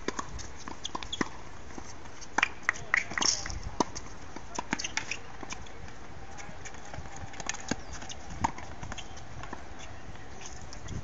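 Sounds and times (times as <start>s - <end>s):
tennis balls bouncing on court: 0.0s - 11.0s
tennis balls hitting racquets: 0.0s - 11.0s.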